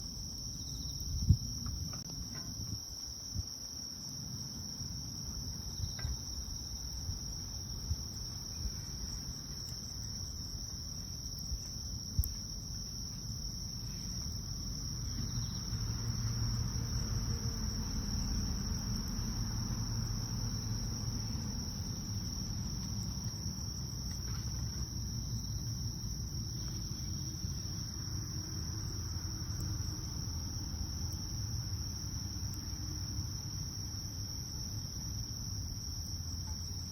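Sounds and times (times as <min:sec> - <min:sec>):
crickets chirring: 0:00.0 - 0:36.9
bonfire rumble and popping: 0:00.1 - 0:32.8.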